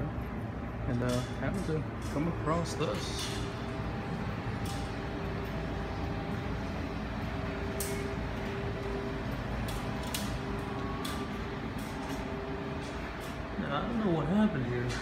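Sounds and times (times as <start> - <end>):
laundry machines rumbling: 0.0 - 15.0.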